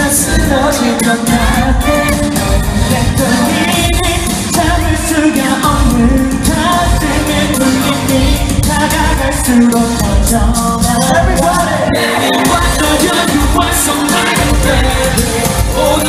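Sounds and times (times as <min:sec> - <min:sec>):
loud backing track with beat: 0:00.0 - 0:16.0
male voices singing: 0:00.0 - 0:16.0.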